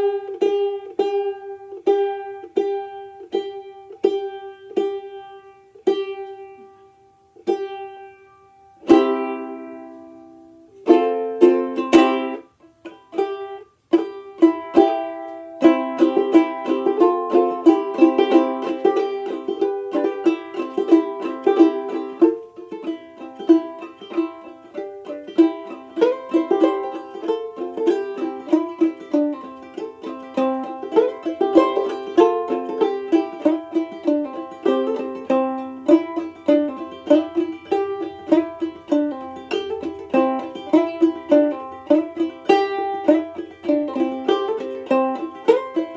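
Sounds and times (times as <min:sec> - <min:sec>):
banjolele plucked and strummed: 0:00.0 - 0:45.9.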